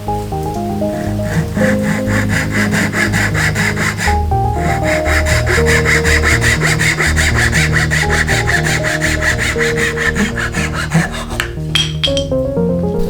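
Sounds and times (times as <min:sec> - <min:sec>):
hand saw cutting wood: 0:00.8 - 0:12.0.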